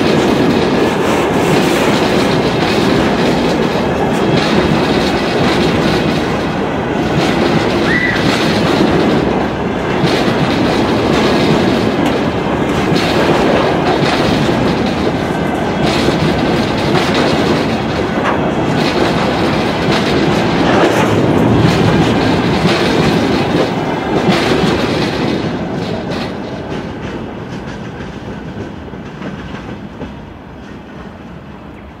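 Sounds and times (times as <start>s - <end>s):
wheels clicking over rail joints: 0.0s - 31.1s
train wheels rolling on rails: 0.0s - 32.0s.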